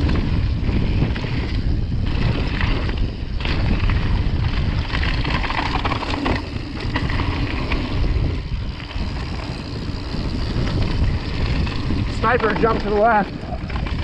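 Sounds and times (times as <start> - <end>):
bike clicks and rattles: 0.0 - 14.0
tyres rolling on gravel: 0.0 - 14.0
wind rushing over microphone: 0.0 - 14.0.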